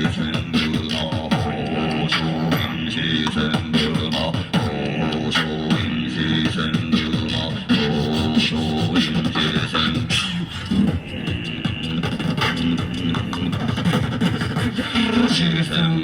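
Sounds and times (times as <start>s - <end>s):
beatboxing: 0.0s - 16.0s.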